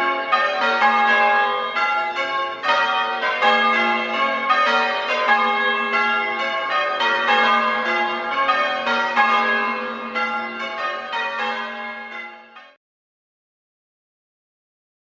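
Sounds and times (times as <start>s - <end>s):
church bells change ringing: 0.0s - 12.8s.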